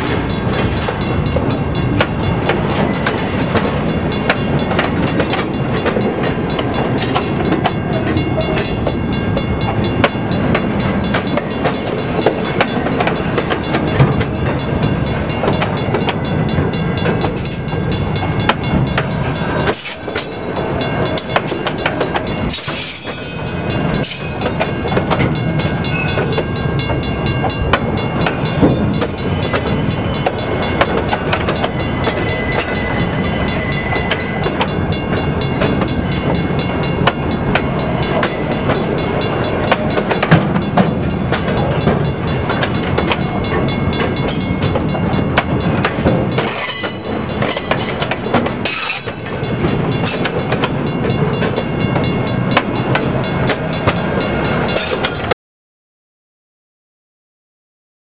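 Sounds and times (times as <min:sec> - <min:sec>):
railcar wheels clacking over joints: 0:00.0 - 0:55.3.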